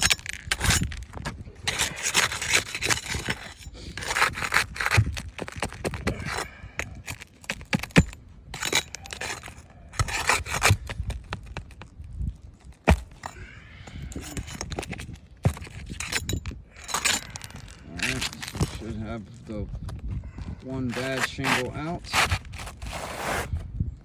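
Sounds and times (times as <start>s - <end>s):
tool scraping roof shingles: 0.0s - 11.9s, 12.6s - 19.0s, 20.7s - 23.6s.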